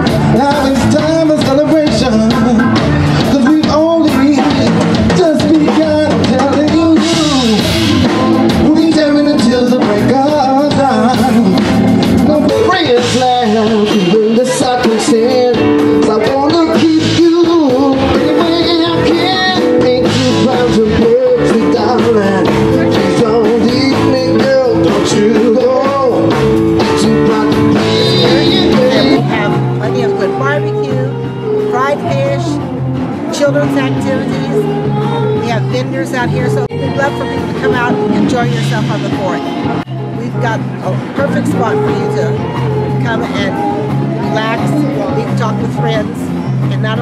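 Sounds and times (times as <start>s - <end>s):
drum kit: 0.0s - 47.0s
guitar: 0.0s - 47.0s
person singing blues: 0.0s - 47.0s.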